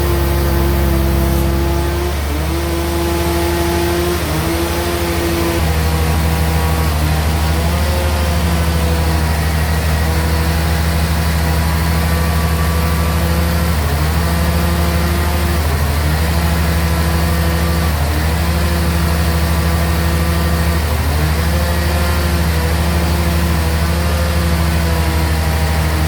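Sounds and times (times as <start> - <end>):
bandsaw and engine humming: 0.0 - 26.0.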